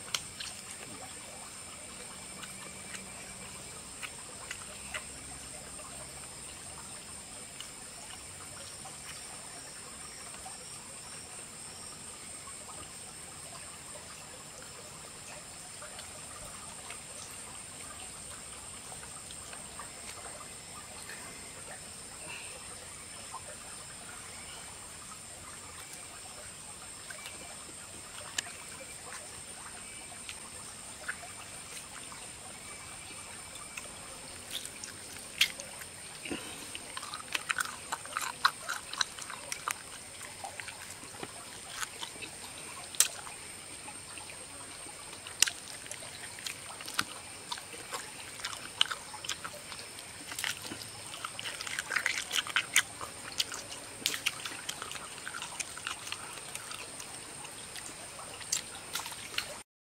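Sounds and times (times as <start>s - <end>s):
chewing and lip-smacking: 0.0s - 11.2s, 13.5s - 22.4s, 23.1s - 59.6s.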